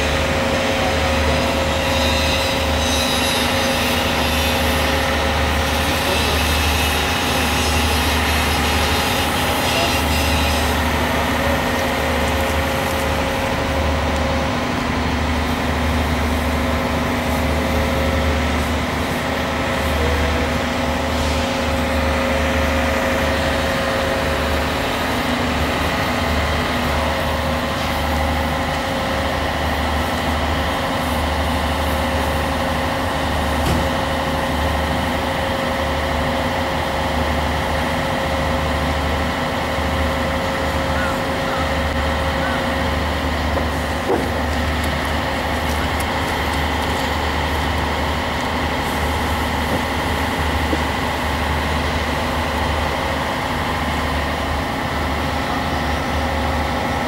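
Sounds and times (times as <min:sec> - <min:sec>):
crane diesel engine rumbling: 0:00.0 - 0:57.0.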